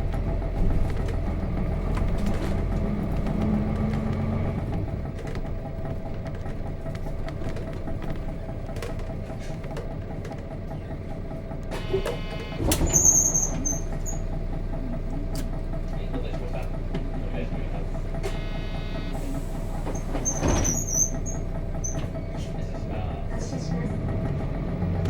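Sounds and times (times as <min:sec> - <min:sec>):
diesel bus engine idling: 0:00.0 - 0:25.0.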